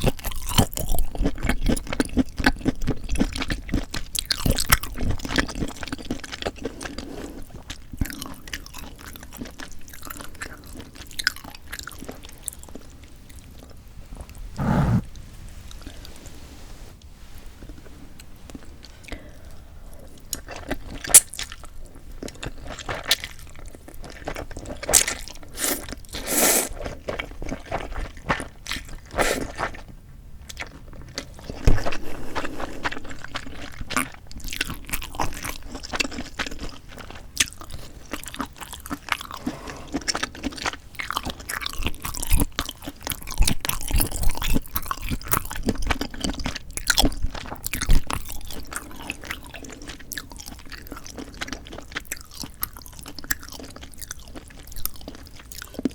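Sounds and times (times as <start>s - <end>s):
food crunching: 0.0s - 14.9s, 20.0s - 55.9s
person chewing food: 0.0s - 15.0s, 18.5s - 55.9s.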